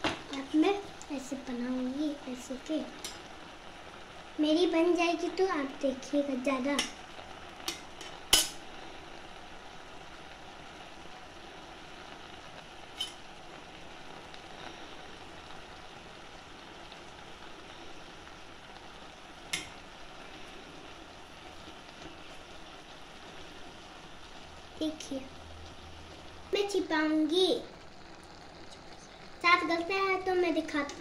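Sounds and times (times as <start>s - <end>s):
vegetables sizzling in metal pan: 0.0s - 31.0s.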